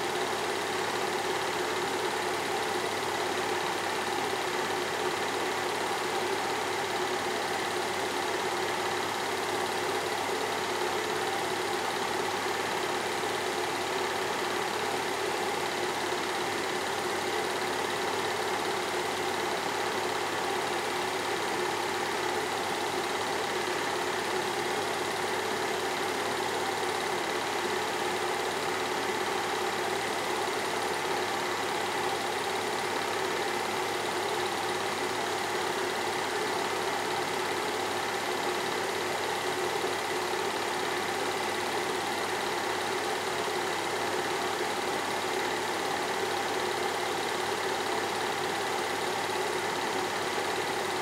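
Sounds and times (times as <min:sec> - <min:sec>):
film projector whirring: 0:00.0 - 0:51.0.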